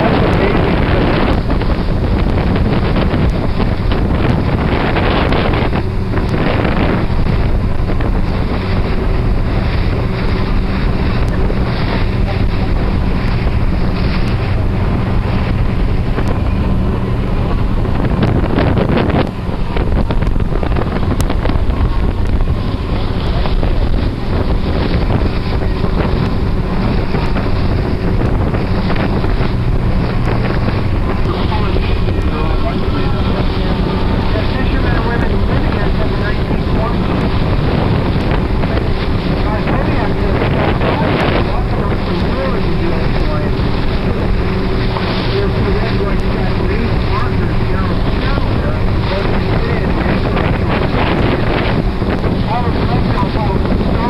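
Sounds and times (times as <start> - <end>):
boat engine droning: 0.0 - 54.0
wind buffeting microphone: 0.0 - 54.0.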